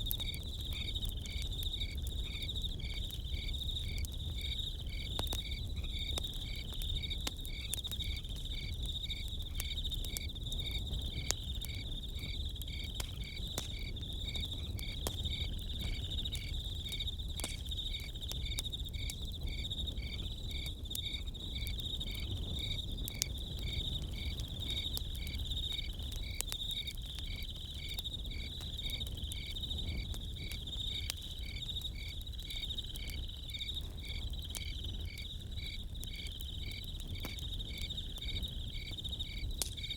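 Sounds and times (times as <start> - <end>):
campfire popping and crackling: 0.0 - 39.9
crickets chirping: 0.0 - 39.9.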